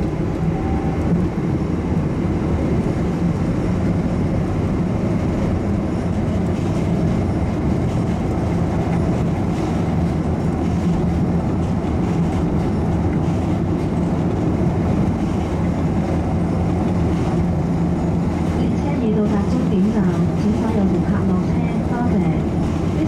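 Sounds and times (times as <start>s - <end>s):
shuttle train rumbling: 0.0s - 23.0s.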